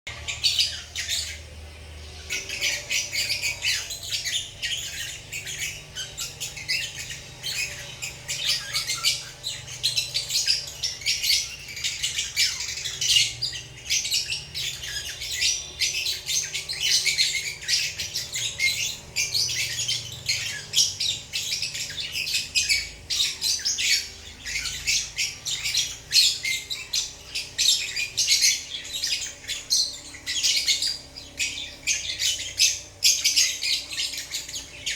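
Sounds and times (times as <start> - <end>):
lovebirds chirping and squawking: 0.1 - 34.9.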